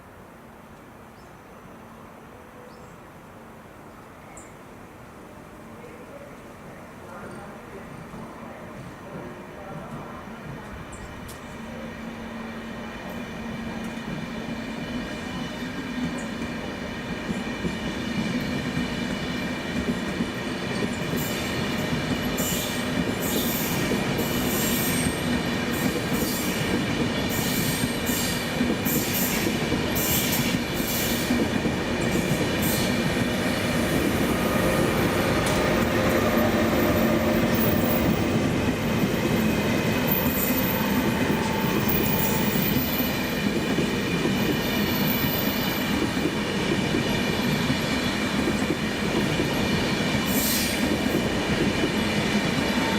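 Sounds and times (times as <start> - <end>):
train wheels squealing on rails: 9.8 - 52.9.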